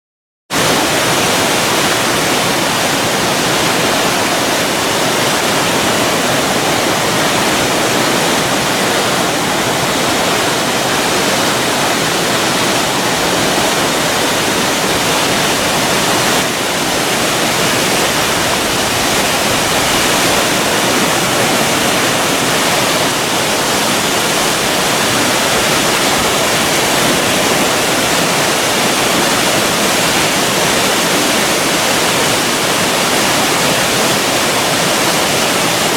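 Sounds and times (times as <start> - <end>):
waterfall rushing: 0.5 - 35.9.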